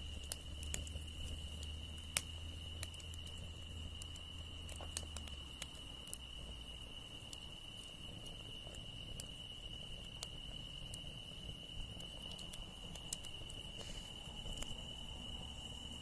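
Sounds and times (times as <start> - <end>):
campfire crackling: 0.0 - 16.0
insects trilling: 0.0 - 16.0.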